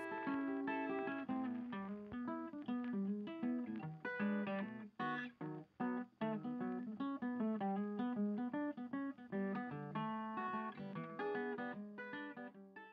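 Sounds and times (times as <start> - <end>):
acoustic guitar strumming: 0.0 - 12.5.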